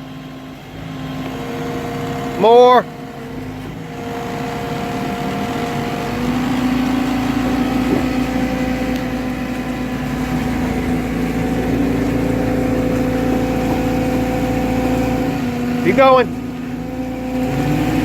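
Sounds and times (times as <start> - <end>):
bucket working into dirt: 0.0 - 18.0
skid steer engine running: 0.0 - 18.0.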